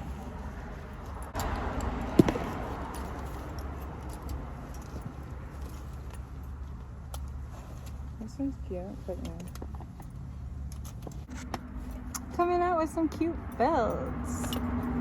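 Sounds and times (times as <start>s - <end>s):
leather rustling: 0.0s - 12.5s
buckles clinking on metal ring: 0.0s - 15.0s.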